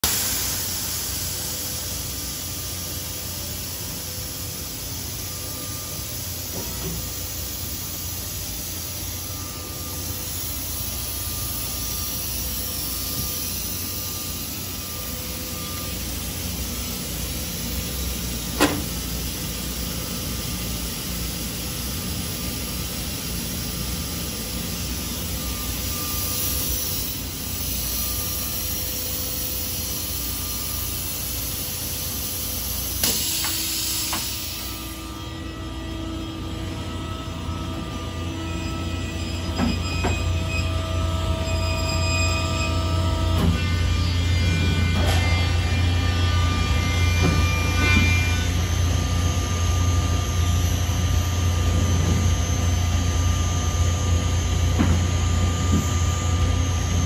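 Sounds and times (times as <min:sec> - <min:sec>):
low hum of fans and machinery: 0:00.0 - 0:57.0.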